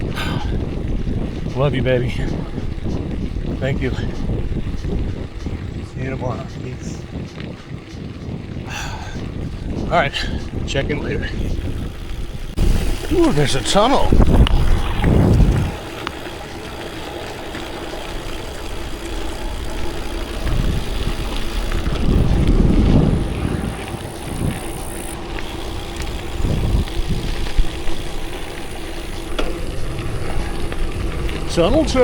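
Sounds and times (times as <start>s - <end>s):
bicycle tyres rolling on gravel: 0.0s - 32.0s
wind buffeting microphone: 0.0s - 32.0s.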